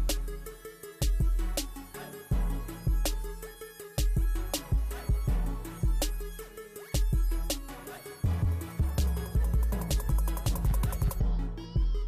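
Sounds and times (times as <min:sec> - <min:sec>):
electronic music with bass beat: 0:00.0 - 0:12.0.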